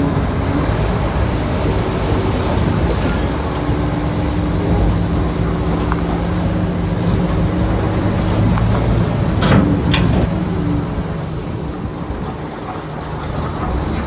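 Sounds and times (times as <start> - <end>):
diesel machine engine drone: 0.0 - 14.0.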